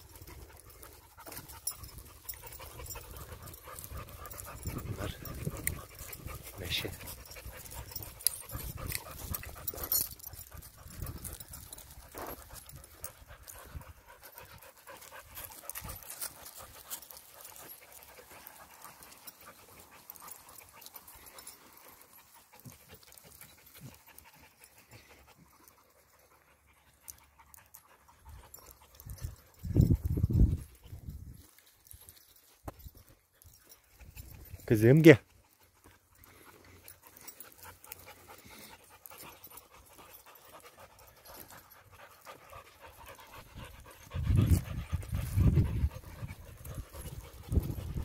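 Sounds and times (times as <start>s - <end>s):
dog panting: 0.0s - 48.0s.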